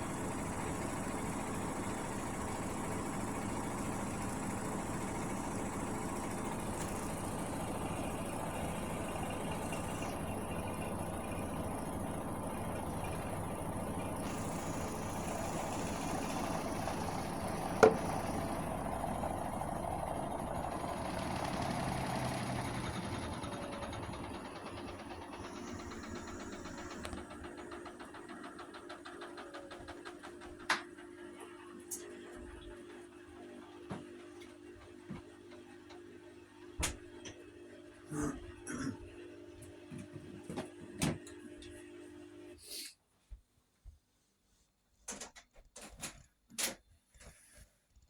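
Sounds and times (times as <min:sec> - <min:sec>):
washing machine humming: 0:00.0 - 0:42.6.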